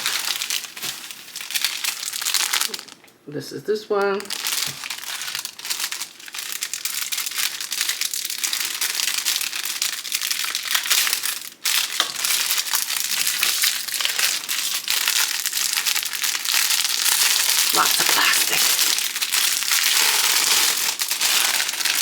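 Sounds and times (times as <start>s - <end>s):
plastic packaging crinkling: 0.0s - 3.2s, 4.0s - 22.0s.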